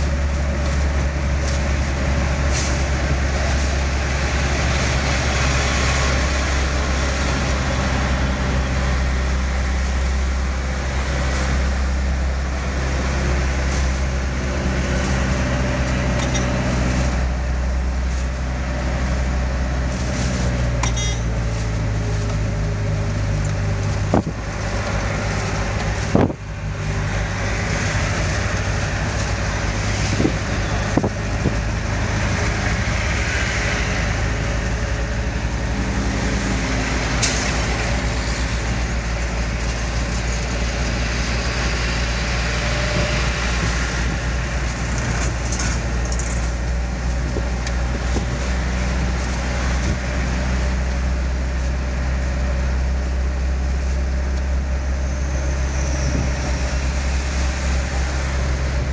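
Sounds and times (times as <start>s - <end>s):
road noise: 0.0s - 58.9s
vehicle engine drone: 0.0s - 58.9s.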